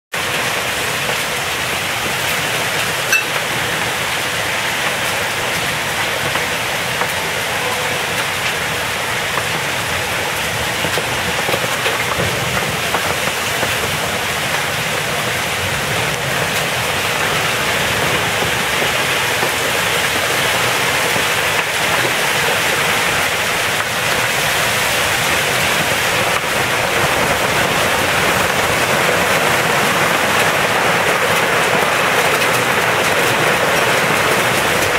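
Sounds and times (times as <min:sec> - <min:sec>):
torrential rain: 0:00.1 - 0:34.9.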